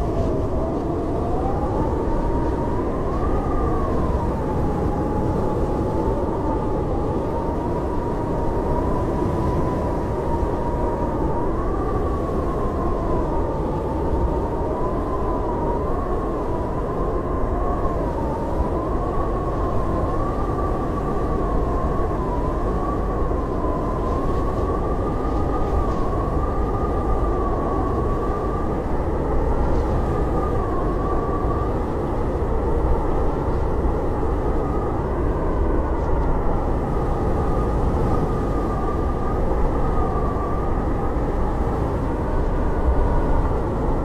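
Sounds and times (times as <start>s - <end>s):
howling blizzard wind: 0.0s - 44.0s.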